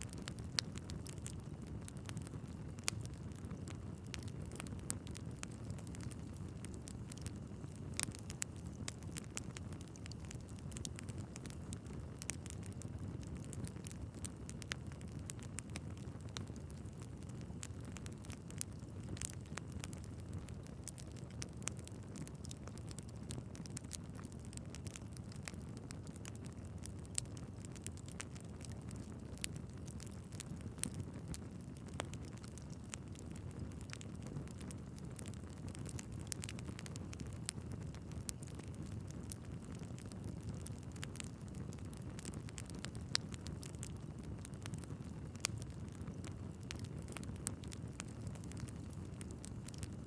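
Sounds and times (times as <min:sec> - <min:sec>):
fire flames rumbling: 0:00.0 - 0:50.0
logs crackling and popping: 0:00.0 - 0:50.0.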